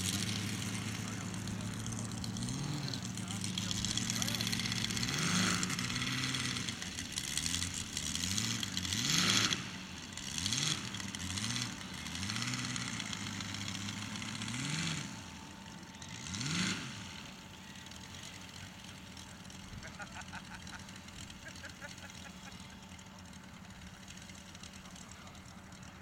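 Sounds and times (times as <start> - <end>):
model plane radial engine revving: 0.0 - 26.0.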